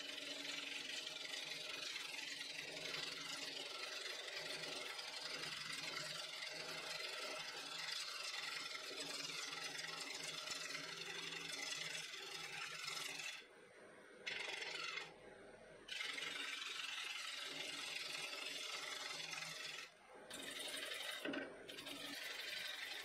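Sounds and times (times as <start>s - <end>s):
gouge scraping spinning wood: 0.0s - 13.5s, 14.2s - 15.2s, 15.9s - 23.0s
lathe motor hum: 0.0s - 13.6s, 14.2s - 15.2s, 15.9s - 23.0s.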